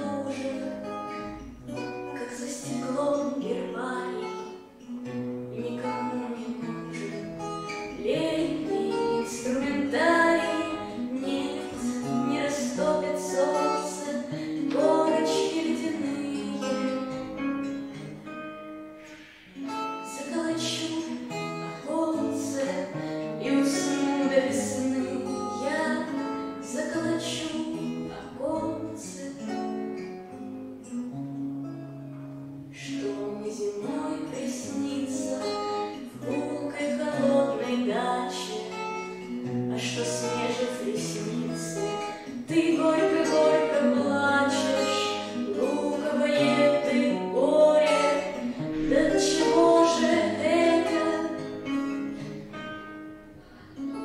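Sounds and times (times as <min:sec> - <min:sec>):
woman singing: 0:00.0 - 0:18.0, 0:19.6 - 0:30.2, 0:32.6 - 0:52.4, 0:53.3 - 0:54.0
strummed acoustic guitar: 0:00.0 - 0:54.0.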